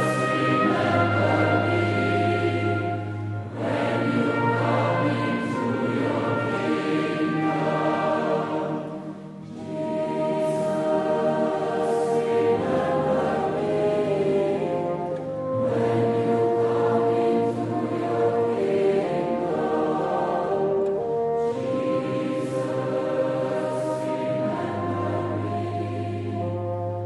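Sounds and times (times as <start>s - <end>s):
choir singing sustained chords: 0.0s - 27.0s.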